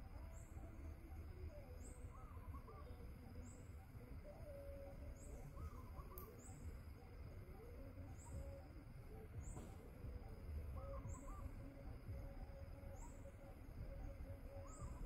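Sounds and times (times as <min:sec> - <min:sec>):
birds calling softly: 0:00.2 - 0:15.0.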